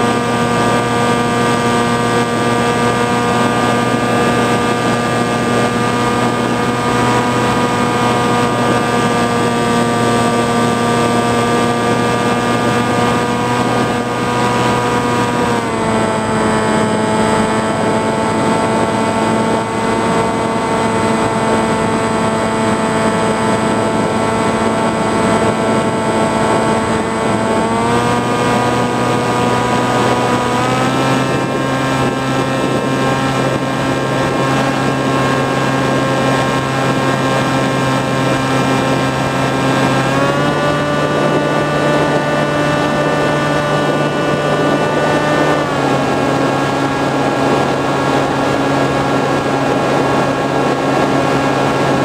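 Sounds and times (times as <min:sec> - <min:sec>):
model aeroplane motor and propeller: 0:00.0 - 0:52.0.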